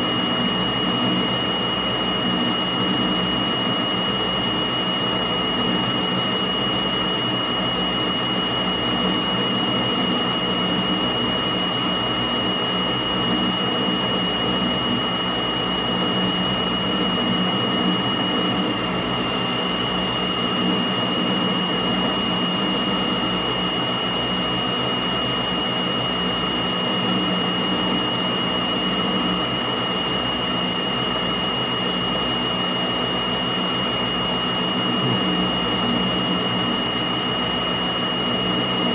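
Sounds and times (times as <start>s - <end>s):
high whine: 0.0s - 38.9s
metal lathe running: 0.0s - 38.9s.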